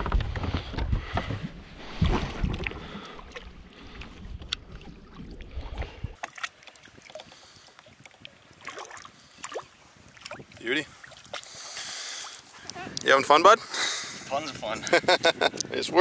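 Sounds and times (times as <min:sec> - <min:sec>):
wind rumbling on microphone: 0:00.0 - 0:06.2, 0:06.8 - 0:16.0
water splashing against boat: 0:01.8 - 0:15.2.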